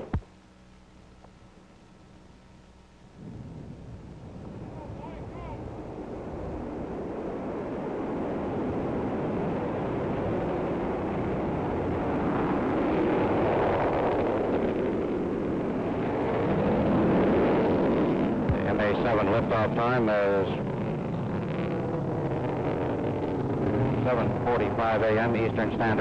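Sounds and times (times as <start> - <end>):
rocket engines rumbling: 0.0 - 26.0.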